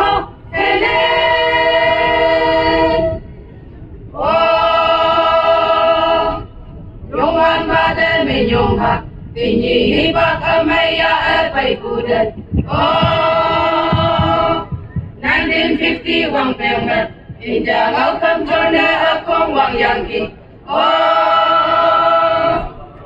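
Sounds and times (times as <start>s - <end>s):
women singing over loudspeakers: 0.0s - 3.2s, 4.2s - 6.5s, 7.1s - 22.8s.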